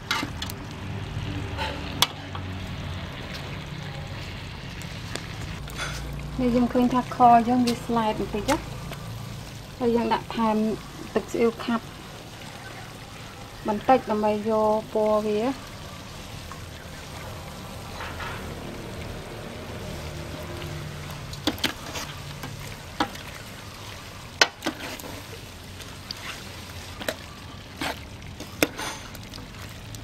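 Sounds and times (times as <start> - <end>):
meat sizzling and bubbling in a pan: 0.0 - 30.0.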